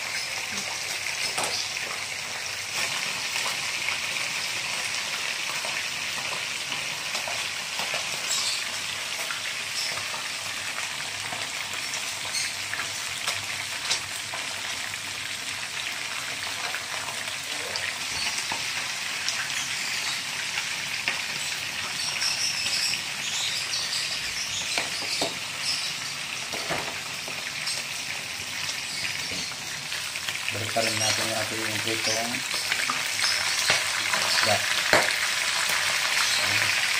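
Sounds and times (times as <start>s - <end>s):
fish sizzling in hot oil: 0.0s - 36.9s
pot boiling: 0.0s - 36.9s.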